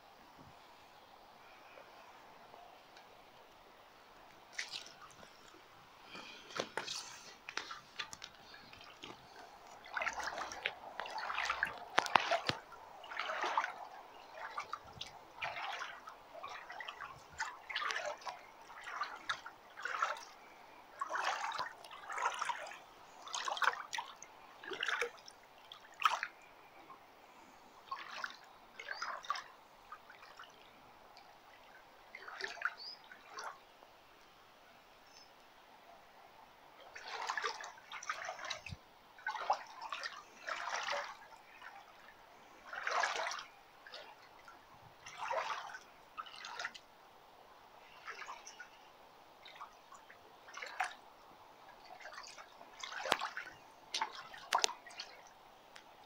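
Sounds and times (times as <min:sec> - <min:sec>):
rubber boots sloshing through water: 0:04.2 - 0:26.5, 0:27.7 - 0:33.7, 0:36.8 - 0:46.9, 0:47.8 - 0:56.0.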